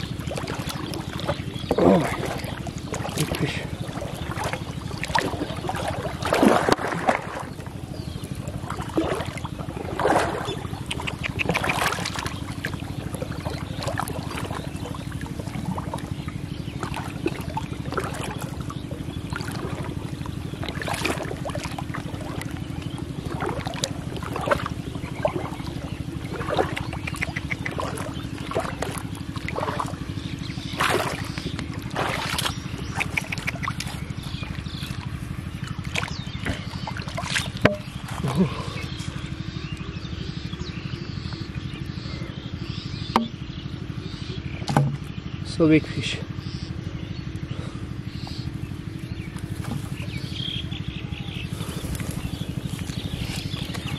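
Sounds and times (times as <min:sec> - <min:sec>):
fish splashing in water: 0:00.0 - 0:45.2, 0:47.3 - 0:53.9
steady low rumble: 0:00.0 - 0:53.9.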